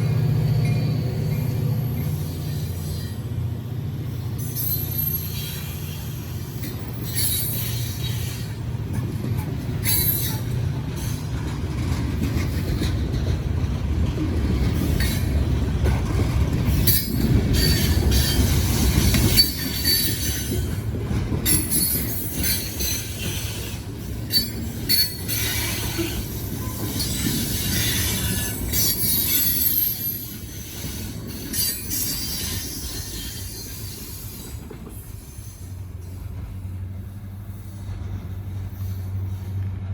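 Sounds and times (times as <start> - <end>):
heavy low train rumble: 0.0 - 39.9
steel wheels squealing on rails: 0.0 - 39.9.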